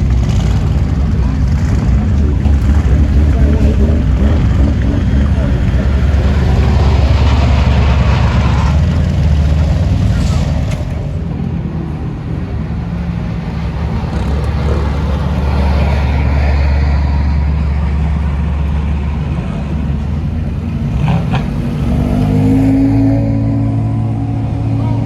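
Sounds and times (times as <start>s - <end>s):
car accelerating: 0.0s - 25.0s
race car engines droning: 0.0s - 25.0s.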